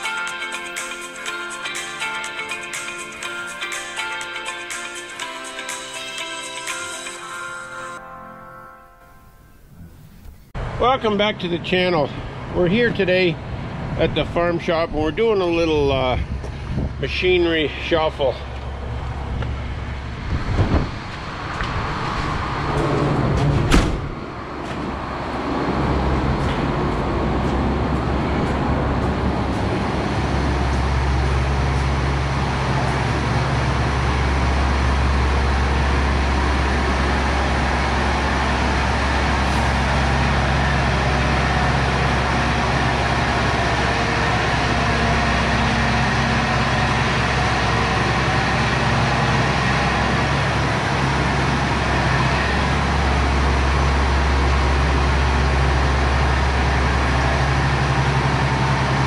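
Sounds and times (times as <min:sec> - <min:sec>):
tractor diesel engine running: 0:09.6 - 0:59.0.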